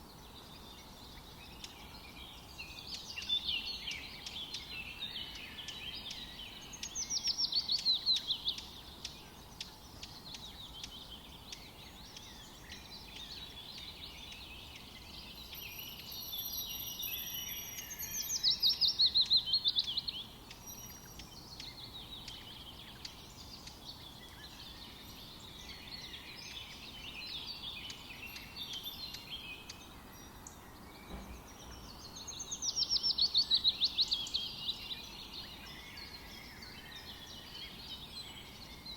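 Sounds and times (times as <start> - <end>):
faint steady hiss: 0.0 - 38.9
songbirds chirping and singing: 0.0 - 38.9.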